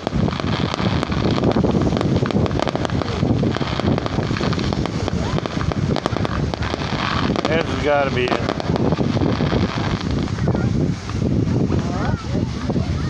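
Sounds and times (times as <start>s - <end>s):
fireworks crackling and popping: 0.0s - 13.0s
wind buffeting microphone: 0.0s - 13.0s.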